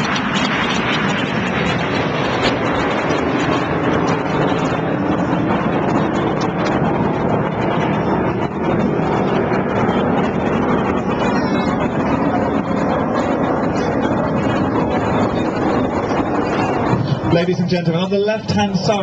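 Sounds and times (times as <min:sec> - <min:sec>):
jets flying low overhead: 0:00.0 - 0:19.0.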